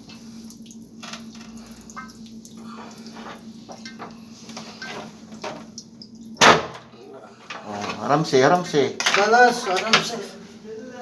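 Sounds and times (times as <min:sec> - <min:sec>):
water dripping: 0:00.0 - 0:10.2.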